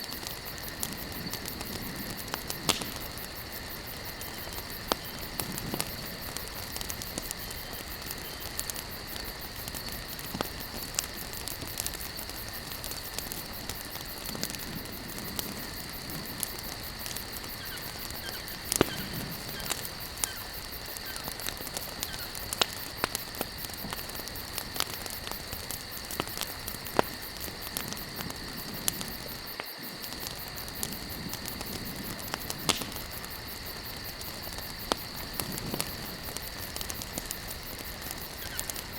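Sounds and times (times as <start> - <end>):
campfire crackling and popping: 0.0 - 38.9
soft steady hiss: 0.0 - 38.9.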